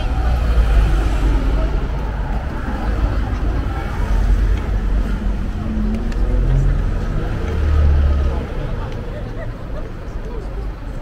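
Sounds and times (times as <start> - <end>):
faint voices: 0.0 - 11.0
road traffic rumble: 0.0 - 11.0.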